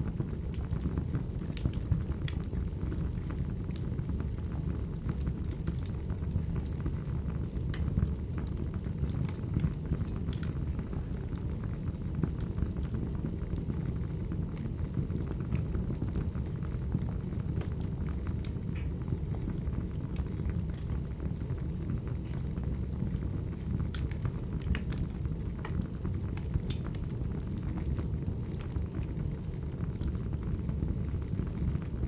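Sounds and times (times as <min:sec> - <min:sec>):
fire crackles and pops: 0:00.0 - 0:32.0
low rumble of flames: 0:00.0 - 0:32.0.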